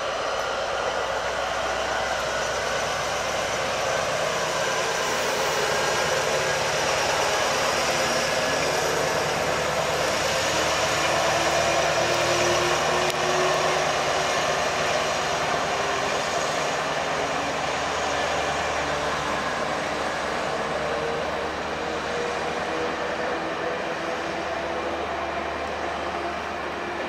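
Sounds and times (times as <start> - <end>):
trains running in station: 0.0 - 27.0.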